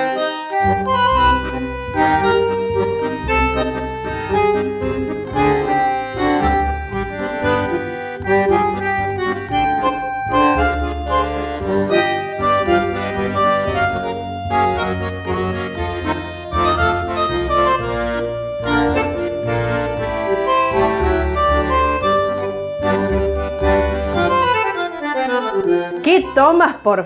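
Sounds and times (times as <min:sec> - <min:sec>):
bass line: 0:00.0 - 0:26.8
instrumental music with held chords: 0:00.0 - 0:26.8.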